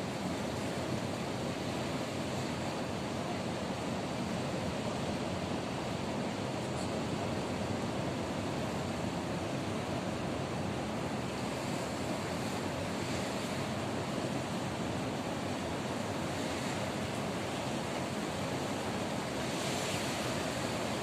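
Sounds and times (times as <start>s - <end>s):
ocean surf washing ashore: 0.0s - 21.0s.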